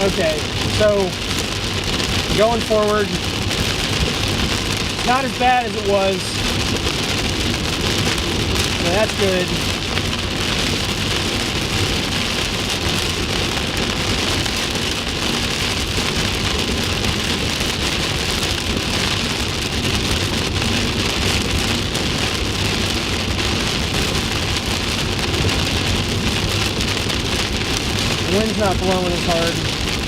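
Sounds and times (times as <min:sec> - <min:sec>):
car road rumble: 0:00.0 - 0:30.0
heavy rain on car roof: 0:00.0 - 0:30.0.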